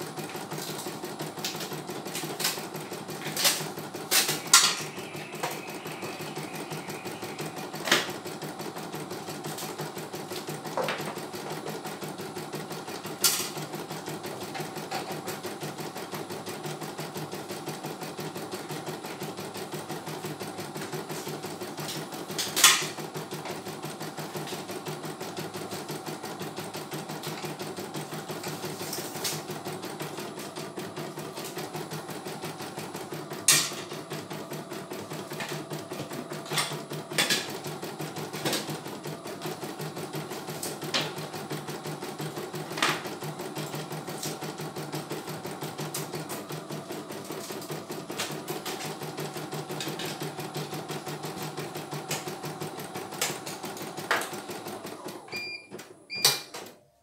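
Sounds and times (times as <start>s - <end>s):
embroidery machine stitching: 0.0s - 56.9s.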